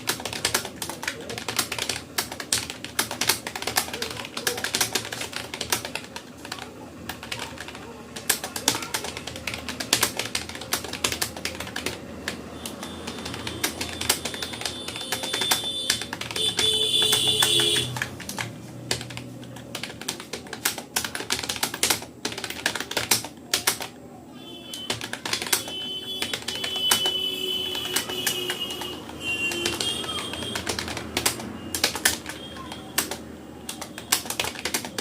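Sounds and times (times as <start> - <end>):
keyboard typing clicks: 0.0 - 24.0, 24.7 - 35.0.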